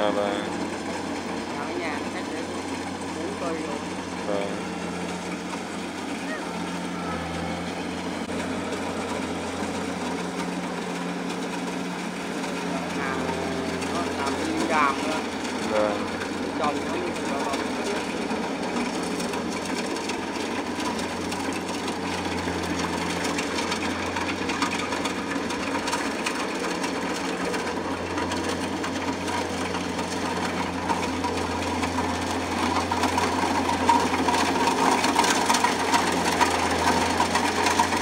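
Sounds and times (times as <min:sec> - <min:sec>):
combine harvester engine hum: 0:00.0 - 0:38.0.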